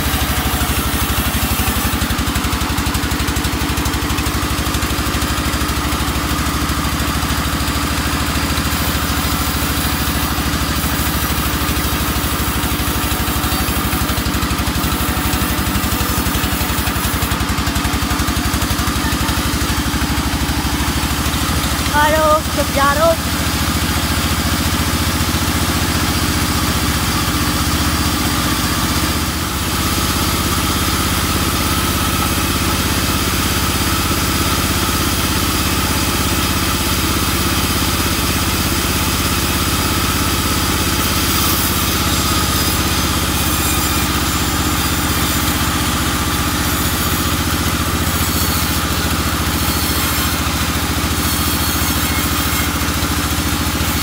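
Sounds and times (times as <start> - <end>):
band sawmill droning: 0.0 - 54.0.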